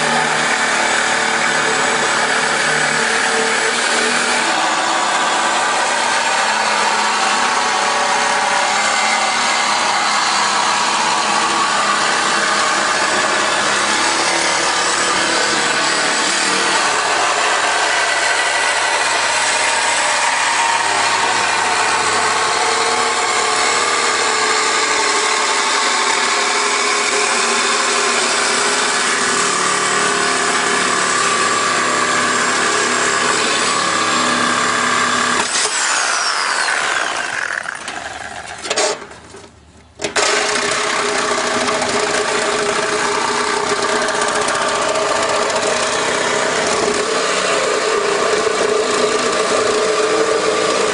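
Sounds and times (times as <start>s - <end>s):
power tool cutting steel: 0.0s - 39.1s, 40.0s - 50.9s.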